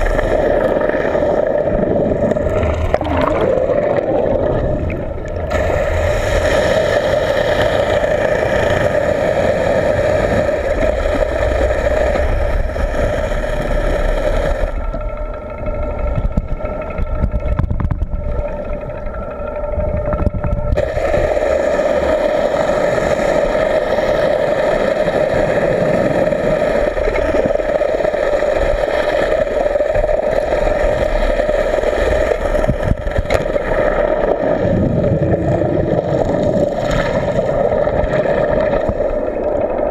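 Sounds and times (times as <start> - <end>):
boat engine drone underwater: 0.0 - 39.9.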